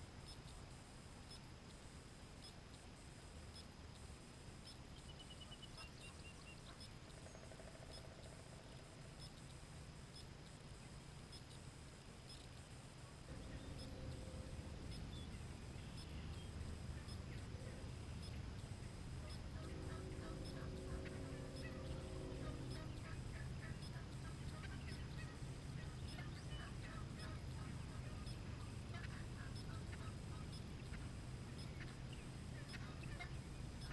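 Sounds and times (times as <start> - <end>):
faint rapid high chirps: 0.0 - 33.9
low multi-tone hum: 0.0 - 33.9.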